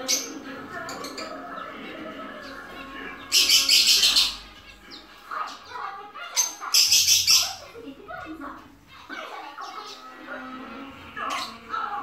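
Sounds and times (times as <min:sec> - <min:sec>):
finches trilling: 0:00.0 - 0:12.0.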